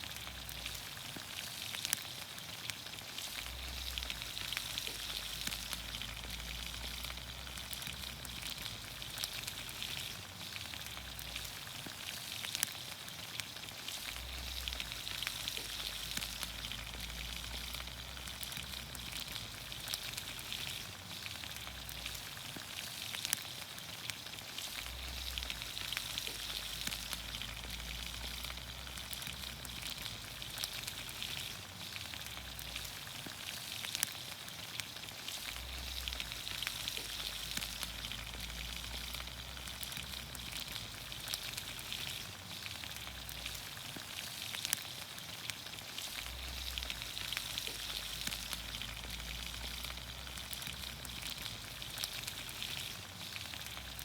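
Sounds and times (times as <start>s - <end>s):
small crackles and pops: 0.0s - 54.0s
vegetables sizzling in oil: 0.0s - 54.0s.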